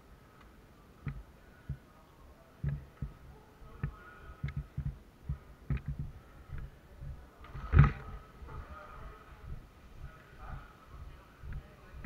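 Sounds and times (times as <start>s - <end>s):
footsteps with dull thumps: 1.0s - 1.8s, 2.6s - 12.0s.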